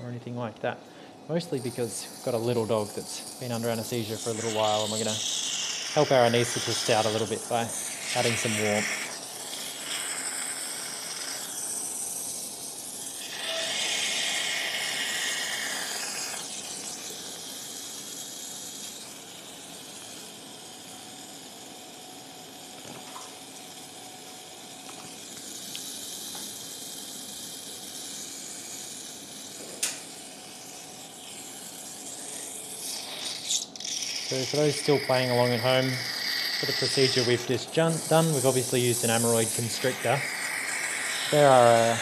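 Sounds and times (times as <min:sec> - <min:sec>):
surgical suction hissing: 0:01.3 - 0:21.8, 0:22.5 - 0:42.0.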